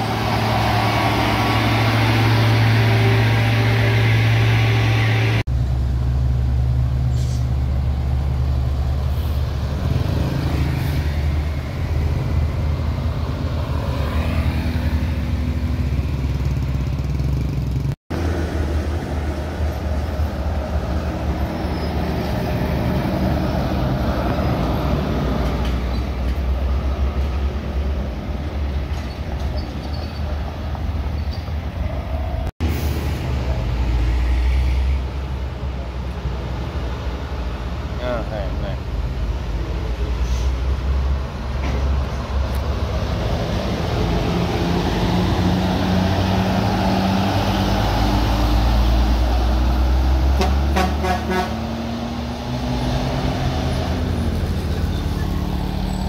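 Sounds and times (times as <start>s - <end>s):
buses driving past: 0.0s - 56.0s.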